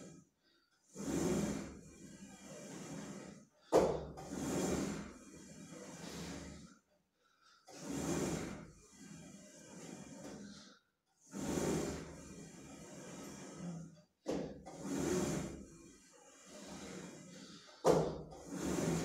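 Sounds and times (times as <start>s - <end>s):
gym weight stack moving: 0.0s - 19.0s.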